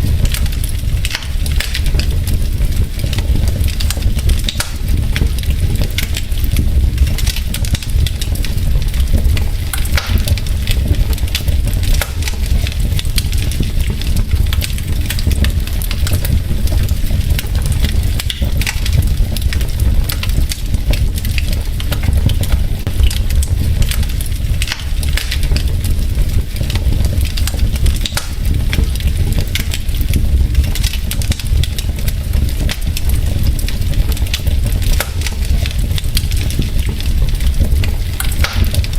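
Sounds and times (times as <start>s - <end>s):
logs crackling and popping: 0.0s - 38.9s
low fire rumble: 0.0s - 38.9s.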